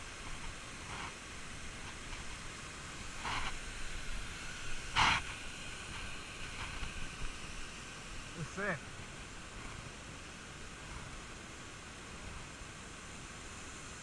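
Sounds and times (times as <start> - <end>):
small waterfall hissing: 0.0 - 14.0.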